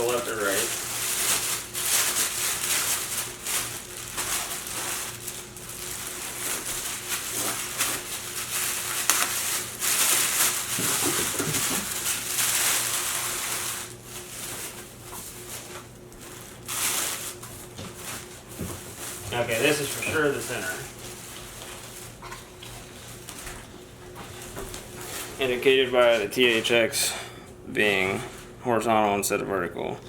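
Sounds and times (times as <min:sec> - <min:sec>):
packaging rustling and crinkling: 0:00.0 - 0:26.8
faint steady hum: 0:00.0 - 0:30.0.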